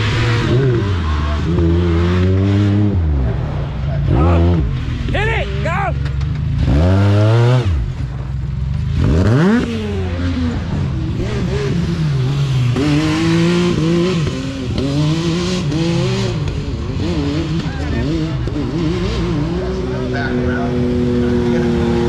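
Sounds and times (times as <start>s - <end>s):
utv engine revving hard: 0.0s - 3.3s, 4.0s - 4.8s, 6.6s - 8.0s, 8.9s - 22.0s.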